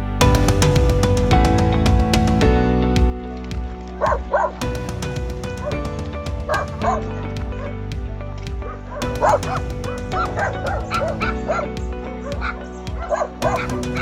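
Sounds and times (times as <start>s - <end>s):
music with percussive beat: 0.2s - 14.0s.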